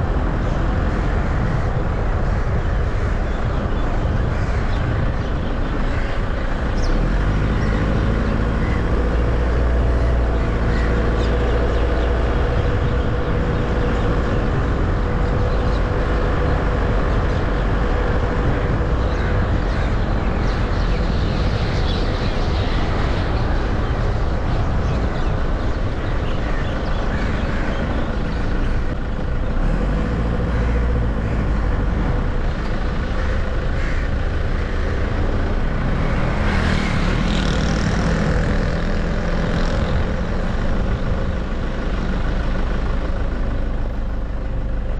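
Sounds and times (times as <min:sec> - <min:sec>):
car engine and tyre noise: 0:00.0 - 0:44.9.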